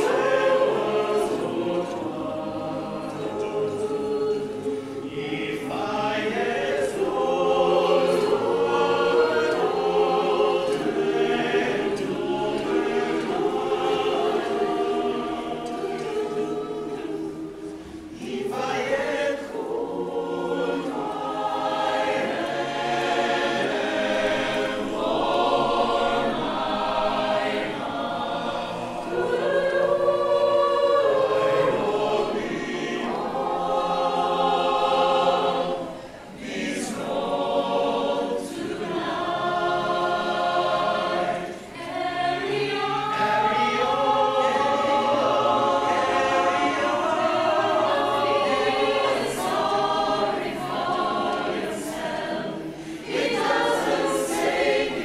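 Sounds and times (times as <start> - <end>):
mixed choir singing a cappella: 0.0 - 55.0.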